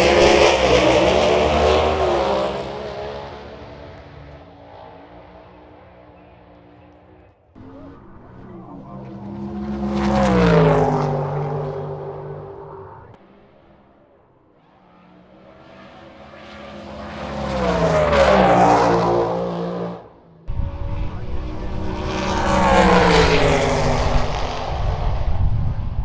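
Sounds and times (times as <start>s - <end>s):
drag racing cars passing: 0.0s - 26.0s.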